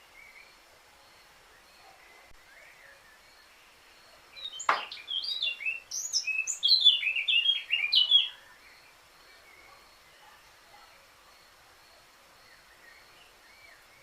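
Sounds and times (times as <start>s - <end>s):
songbird singing whistled notes: 0.0s - 14.0s.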